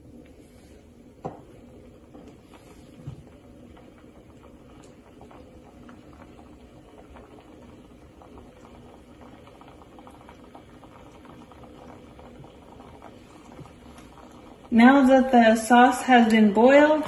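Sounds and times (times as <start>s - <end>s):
tomato sauce bubbling: 0.0s - 17.0s.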